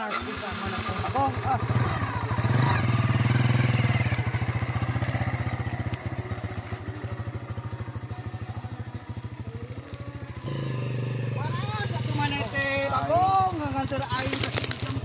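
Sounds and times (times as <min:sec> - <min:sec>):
motor scooter engine running: 0:00.0 - 0:15.0.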